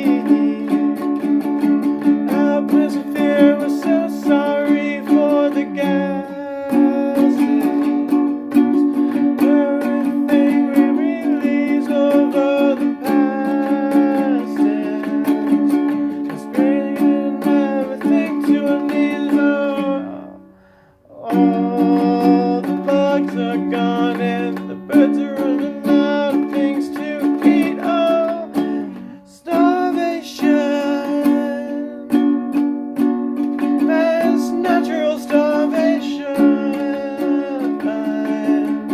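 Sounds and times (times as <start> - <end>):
person singing wordlessly: 0.0 - 32.6, 33.4 - 38.9
acoustic string instrument strummed: 0.0 - 38.9.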